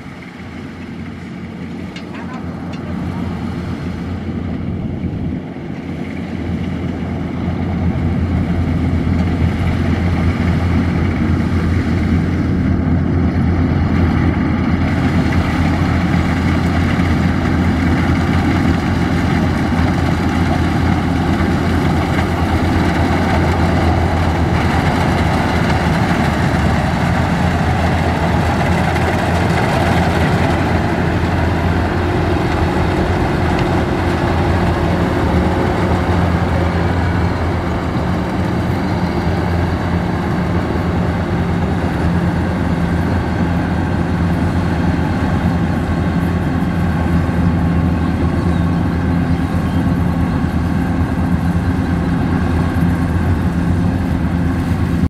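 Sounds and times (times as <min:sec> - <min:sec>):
combine harvester engine hum: 0:00.0 - 0:55.0.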